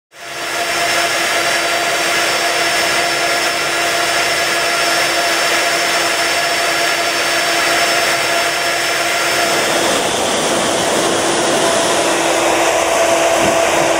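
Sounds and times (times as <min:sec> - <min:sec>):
jet engines running: 0:00.1 - 0:13.9
steady engine whine: 0:00.1 - 0:13.9.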